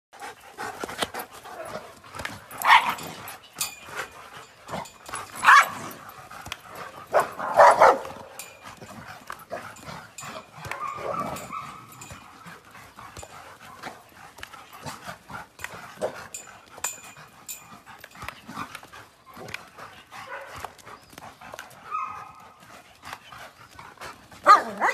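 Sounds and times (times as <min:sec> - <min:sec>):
dogs barking and yelping: 0:00.2 - 0:24.9.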